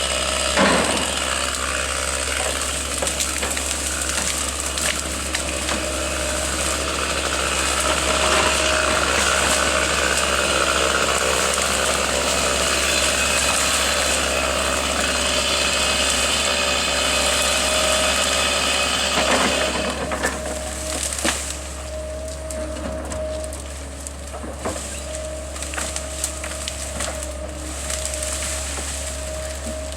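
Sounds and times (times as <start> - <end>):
tree-removal machinery engine: 0.0 - 29.9.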